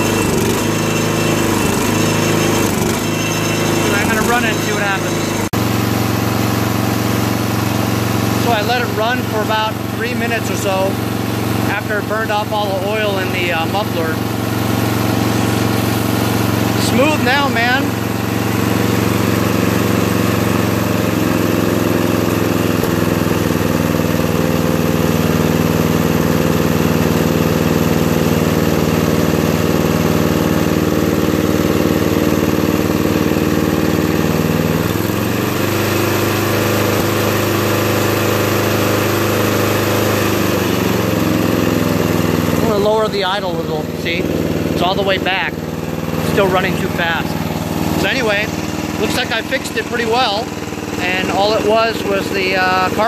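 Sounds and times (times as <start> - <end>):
riding mower engine running: 0.0 - 53.0.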